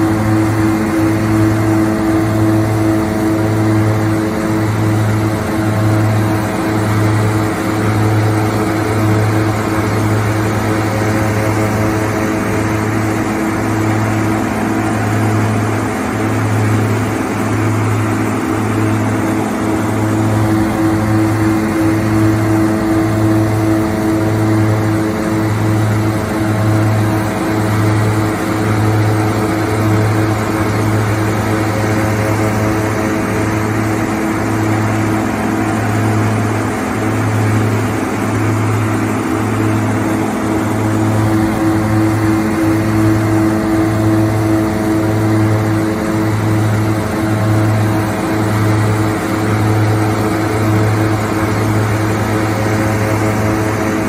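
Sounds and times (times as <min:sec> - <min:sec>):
harvester machinery humming: 0:00.0 - 0:54.0.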